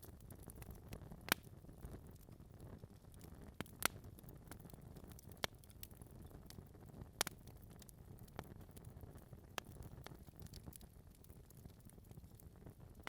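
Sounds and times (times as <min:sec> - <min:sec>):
burning logs popping: 0:00.0 - 0:13.0
fire flames rumbling: 0:00.0 - 0:13.0.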